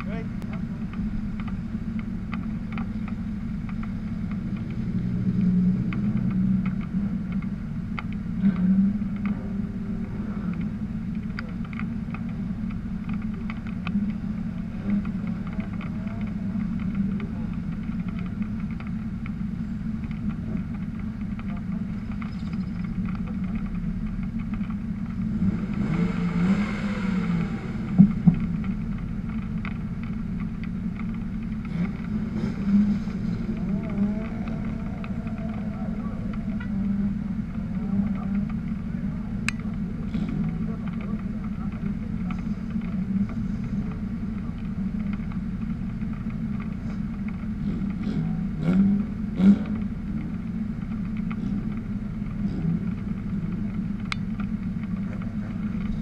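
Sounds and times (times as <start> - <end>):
car engine idling: 0.0 - 56.0
cars driving past revving: 0.0 - 56.0.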